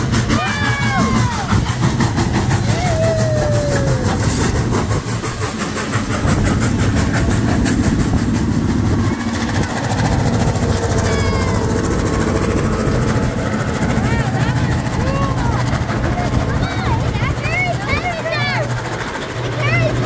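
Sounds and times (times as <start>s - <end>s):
diesel engines running: 0.0s - 20.0s
train wheels clattering: 0.0s - 20.0s.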